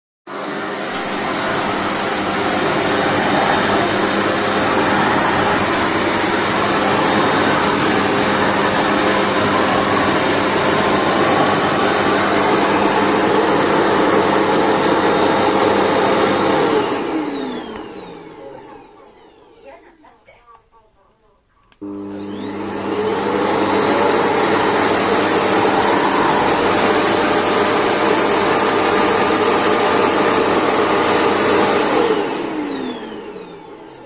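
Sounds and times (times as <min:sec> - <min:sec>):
vacuum cleaner running: 0:00.3 - 0:20.0, 0:21.8 - 0:34.0
vacuum motor winding down: 0:00.4 - 0:19.6, 0:21.8 - 0:34.0.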